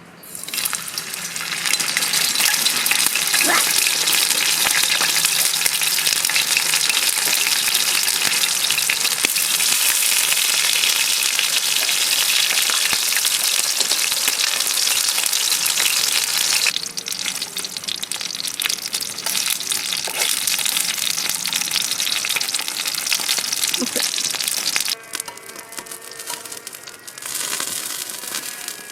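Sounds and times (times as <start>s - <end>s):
food sizzling in a frying pan: 0.3s - 28.9s.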